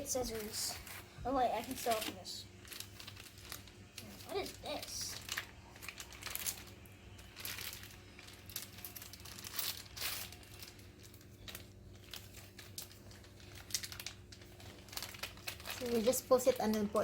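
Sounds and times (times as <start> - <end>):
plastic packaging crinkling: 0.0 - 17.0
plastic tearing: 0.0 - 17.0.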